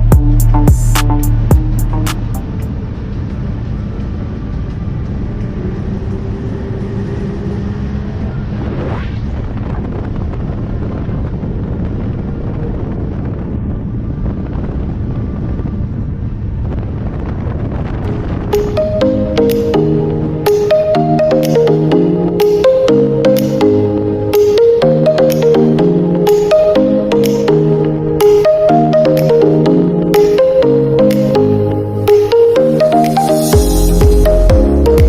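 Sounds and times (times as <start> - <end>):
wind noise on microphone: 0.0 - 32.8.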